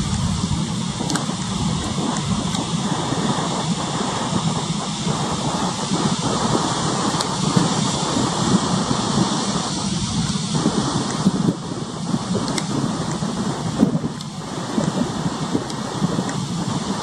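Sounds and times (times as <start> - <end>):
low rumble: 0.0 - 17.0
rushing wind: 0.0 - 17.0
sea noise: 0.0 - 17.0.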